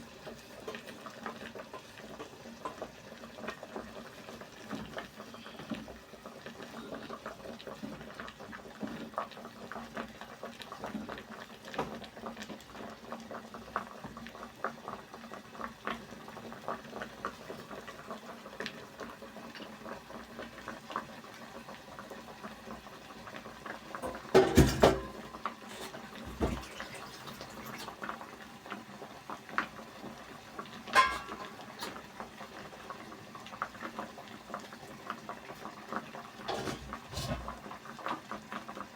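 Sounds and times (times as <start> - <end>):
porridge bubbling in a pot: 0.0 - 38.9.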